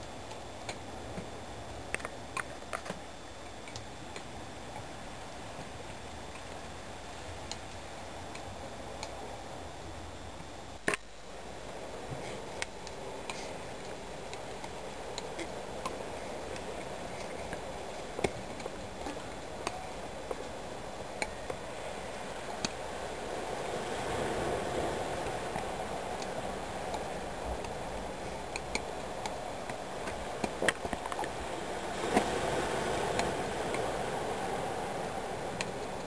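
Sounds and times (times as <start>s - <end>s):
steady rushing noise: 0.0s - 36.0s.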